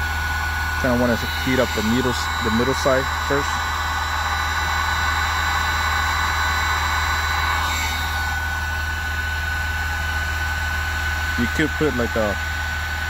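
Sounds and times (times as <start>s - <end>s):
heat gun blowing air: 0.0s - 13.0s
low hum: 0.0s - 13.0s
thin steady whine: 0.0s - 13.0s.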